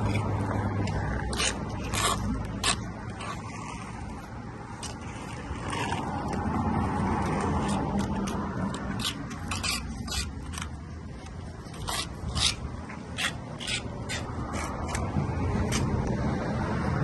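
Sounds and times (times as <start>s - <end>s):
hand tool scraping coating: 0.0s - 15.9s.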